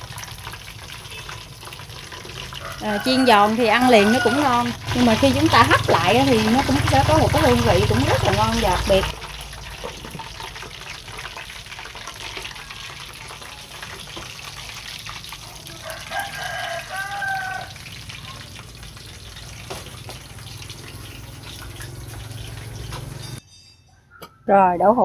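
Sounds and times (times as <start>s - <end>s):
tofu sizzling in oil: 0.0s - 23.4s.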